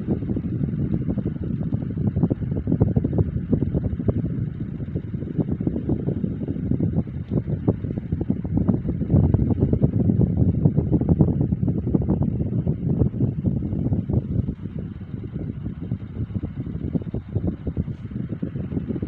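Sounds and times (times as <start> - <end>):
electric fan buffeting microphone: 0.0 - 19.0.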